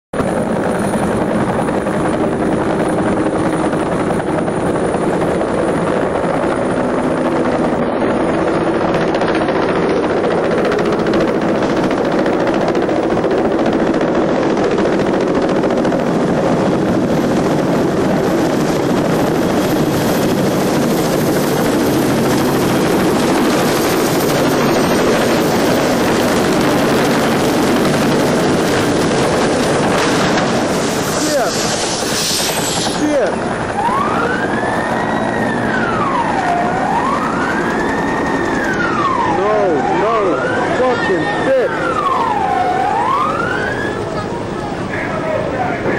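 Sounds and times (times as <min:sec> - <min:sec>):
helicopter turbine and rotor: 0:00.1 - 0:45.9.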